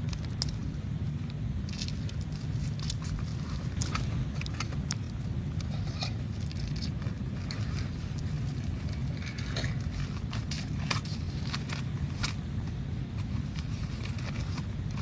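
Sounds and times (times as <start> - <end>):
sharp clicks and crackles: 0.0 - 15.0
steady low rumble: 0.0 - 15.0.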